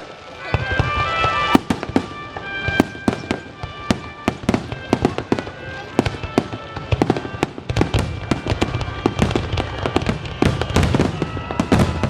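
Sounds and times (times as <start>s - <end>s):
fireworks bursting: 0.0s - 12.0s
fireworks crackling: 0.0s - 12.0s.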